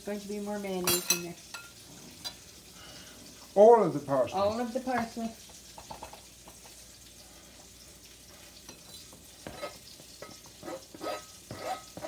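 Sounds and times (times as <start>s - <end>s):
burgers sizzling in a frying pan: 0.0s - 12.0s.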